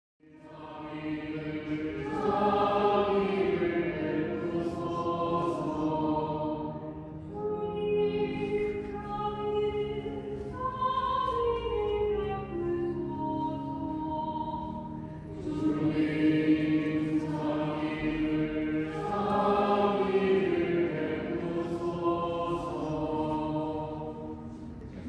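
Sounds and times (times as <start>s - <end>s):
choir singing long-held notes: 0.2s - 25.0s.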